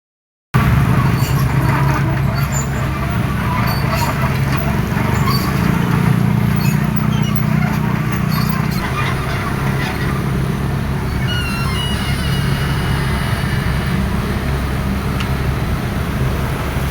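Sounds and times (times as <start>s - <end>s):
excavator diesel engine running: 0.6s - 16.9s.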